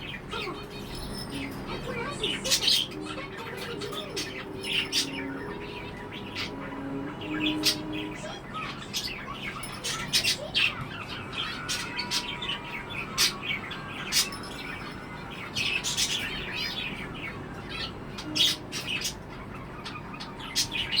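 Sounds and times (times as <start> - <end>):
budgerigar chirping: 0.0 - 21.0.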